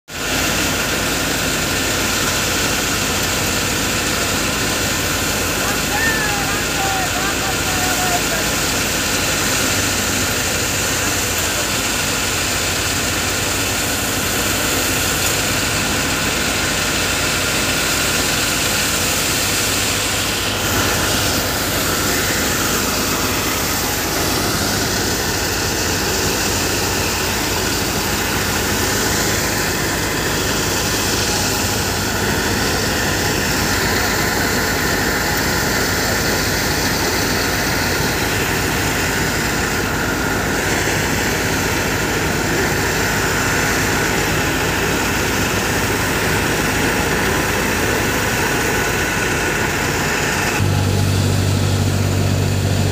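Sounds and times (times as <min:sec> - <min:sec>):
tractor diesel engine: 0:00.0 - 0:52.9
thresher machine running: 0:00.1 - 0:52.9.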